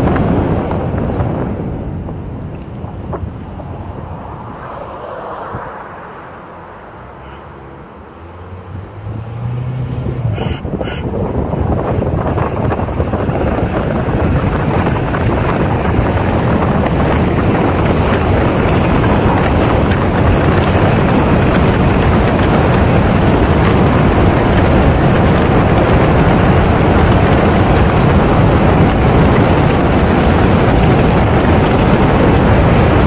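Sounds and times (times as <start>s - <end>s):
road and engine noise: 0.0s - 33.0s
wind rushing over microphone: 0.0s - 33.0s.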